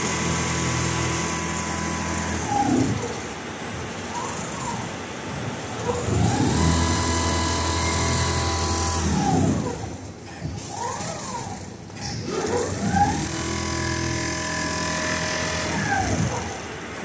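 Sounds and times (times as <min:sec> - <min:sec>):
sewing machine motors whining: 0:00.0 - 0:17.0.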